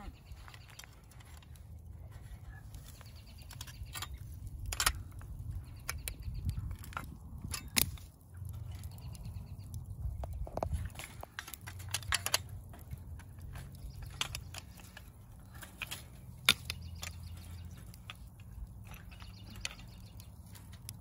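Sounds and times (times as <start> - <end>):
shells and tongs clinking on grill: 3.1 - 21.0.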